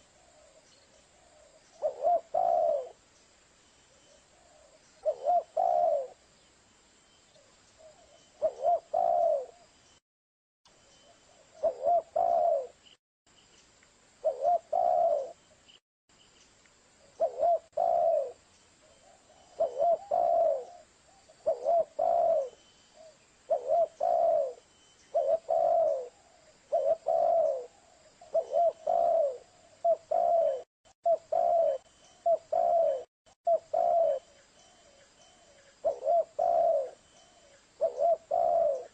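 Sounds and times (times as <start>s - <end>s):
dove cooing: 0.0s - 3.0s, 4.3s - 6.2s, 7.8s - 9.7s, 11.3s - 12.8s, 14.2s - 15.4s, 17.1s - 38.9s.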